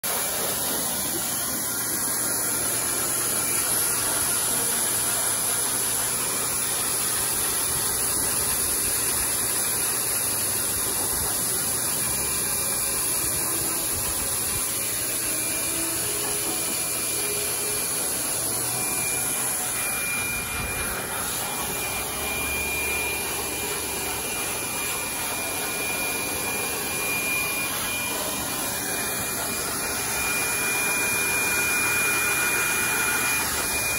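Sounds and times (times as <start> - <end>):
dog grooming blower rushing air: 0.0 - 33.9
thin high whine: 0.1 - 33.9.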